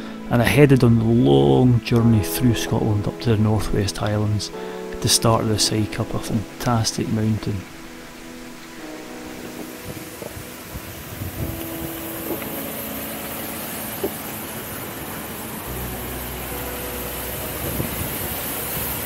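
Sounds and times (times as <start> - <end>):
soft instrumental music: 0.0 - 19.0
steady hiss: 0.0 - 19.0.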